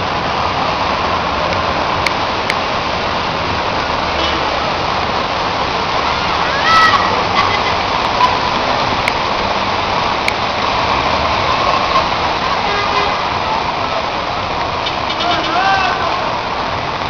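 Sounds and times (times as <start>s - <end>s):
heavy rain: 0.0s - 17.0s
running floodwater: 0.0s - 17.0s.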